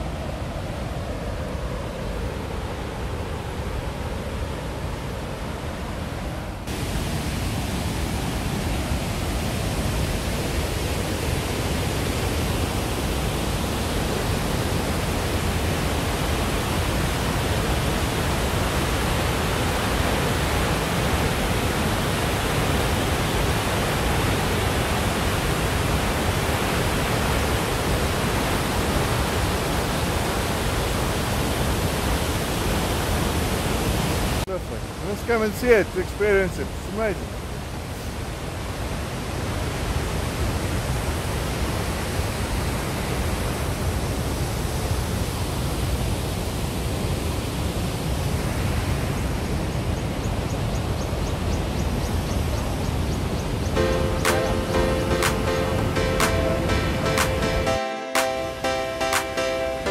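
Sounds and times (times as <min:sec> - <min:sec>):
waterfall rushing: 0:00.0 - 0:49.0, 0:53.8 - 0:59.9.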